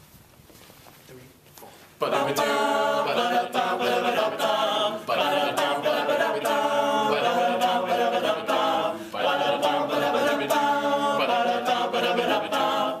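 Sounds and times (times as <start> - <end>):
male a cappella group singing: 2.0 - 13.0.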